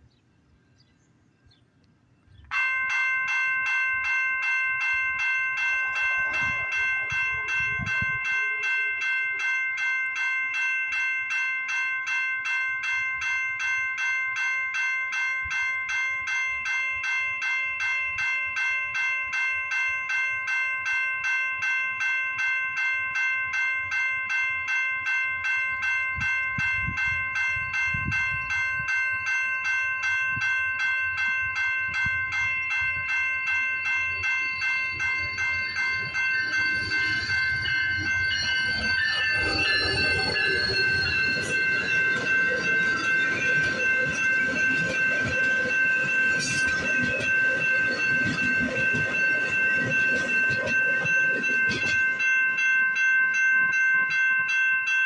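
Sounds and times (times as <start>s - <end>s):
railroad crossing bell ringing: 2.3s - 55.0s.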